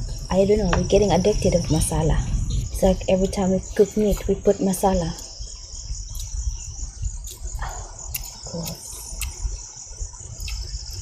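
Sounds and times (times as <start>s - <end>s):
crickets chirring: 0.0s - 11.0s
low rumble: 0.0s - 11.0s.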